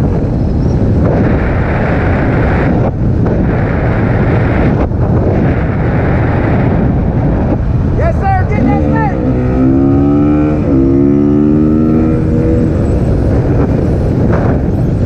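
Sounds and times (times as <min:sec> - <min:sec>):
wind rumble on microphone: 0:00.0 - 0:15.0
motorcycle engine: 0:00.3 - 0:15.0.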